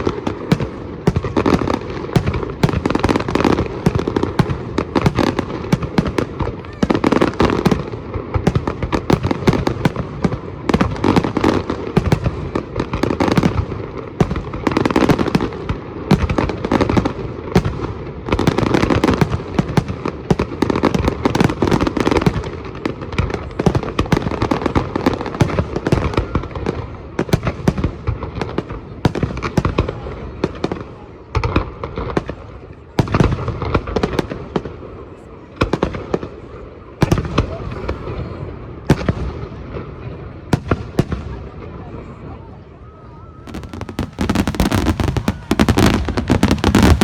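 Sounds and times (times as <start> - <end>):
fireworks banging and crackling: 0.0 - 47.0.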